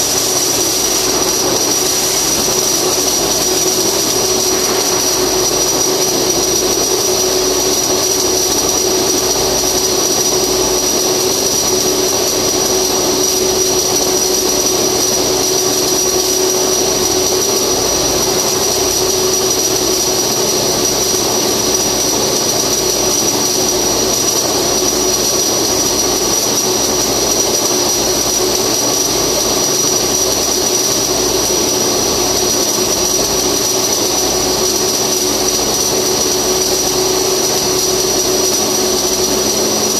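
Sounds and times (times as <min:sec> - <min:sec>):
steady high whine: 0:00.0 - 0:39.9
welding arc hiss: 0:00.0 - 0:39.9.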